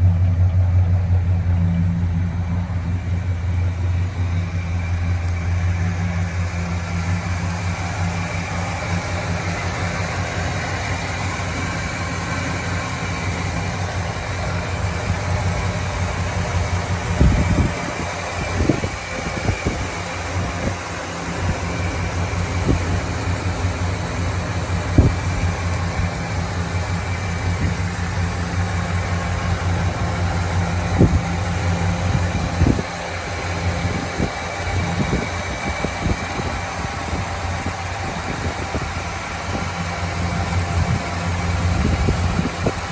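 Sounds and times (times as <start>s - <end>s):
car engine idling: 0.0s - 42.9s
engine knocks: 0.0s - 42.9s.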